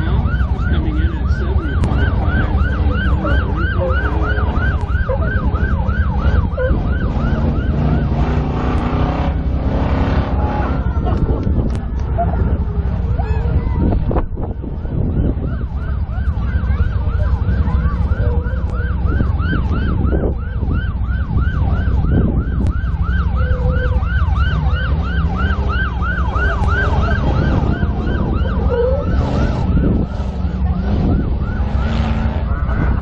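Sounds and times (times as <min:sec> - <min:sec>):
low engine rumble: 0:00.0 - 0:33.0
siren yelp: 0:00.0 - 0:33.0
wind noise: 0:00.0 - 0:33.0.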